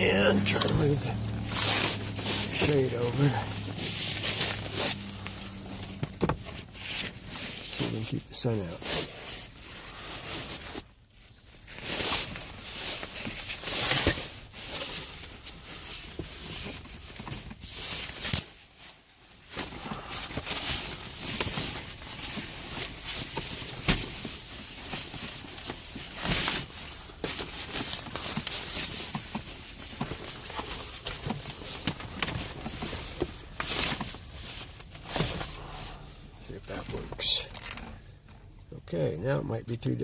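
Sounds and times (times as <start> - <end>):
sunshade rustling and crinkling: 0.0 - 38.5.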